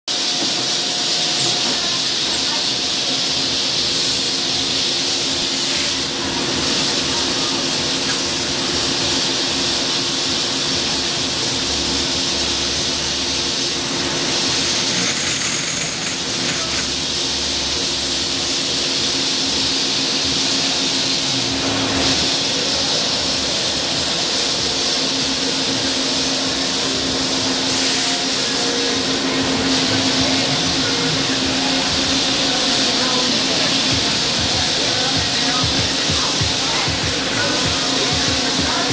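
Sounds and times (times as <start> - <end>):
coolant spraying hiss: 0.1 - 38.9
lathe machine hum: 0.1 - 38.9.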